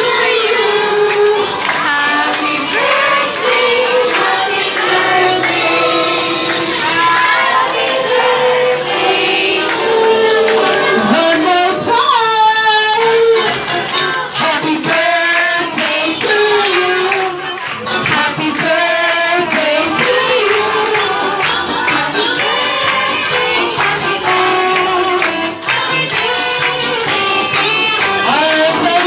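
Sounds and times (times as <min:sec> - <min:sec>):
upbeat song with singing: 0:00.0 - 0:29.0.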